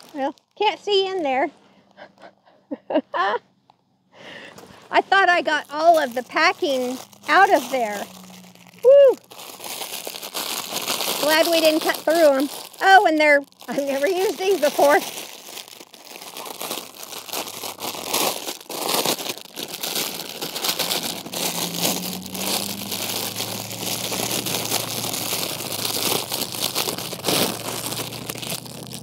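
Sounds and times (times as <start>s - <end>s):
plastic bag crinkling: 0.0s - 1.6s, 4.5s - 29.0s.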